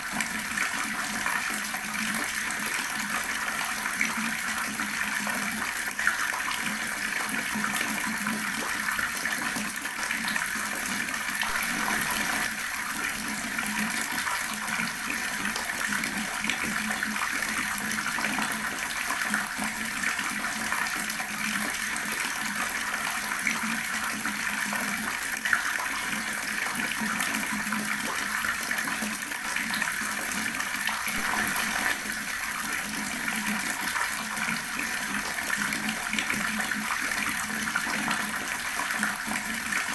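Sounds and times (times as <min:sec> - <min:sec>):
water pouring from a tap: 0:00.0 - 0:39.9.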